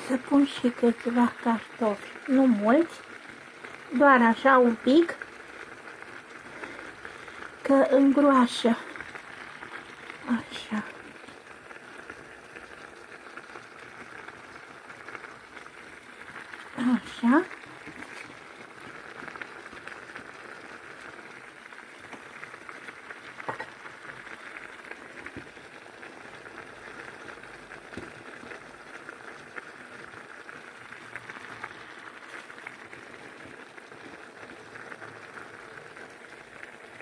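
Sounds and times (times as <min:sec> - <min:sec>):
stew bubbling and sizzling in a pan: 0:00.0 - 0:37.0.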